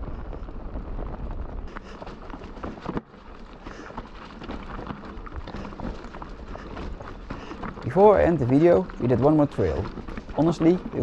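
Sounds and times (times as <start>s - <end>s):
bike clicks and rattles: 0.0s - 11.0s
tyres rolling over dirt and stones: 0.0s - 11.0s.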